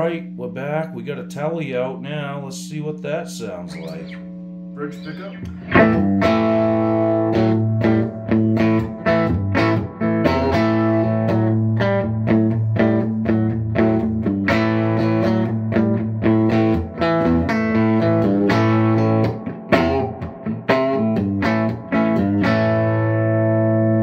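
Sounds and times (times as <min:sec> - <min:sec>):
electric guitar chords and notes: 0:03.4 - 0:24.0.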